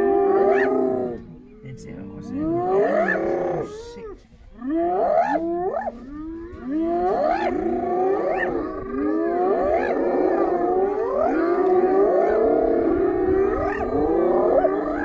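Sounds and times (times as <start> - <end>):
hyenas calling: 0.0 - 15.0.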